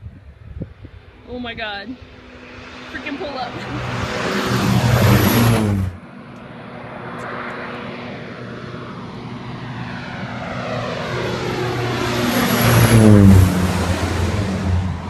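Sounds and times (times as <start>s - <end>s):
propeller airplane approaching: 0.0s - 15.0s
propeller airplane passing low: 0.0s - 15.0s.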